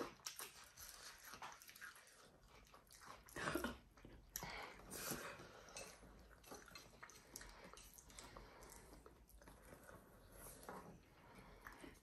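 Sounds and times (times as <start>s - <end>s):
chewing and eating noises: 0.0s - 12.0s.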